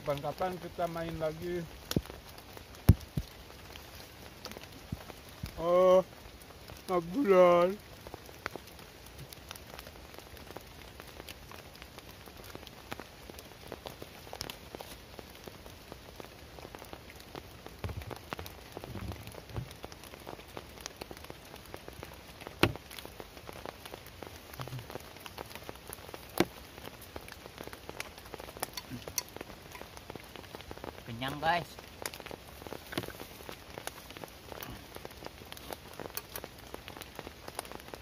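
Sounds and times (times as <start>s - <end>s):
rain pattering on a tarp: 0.0s - 38.0s.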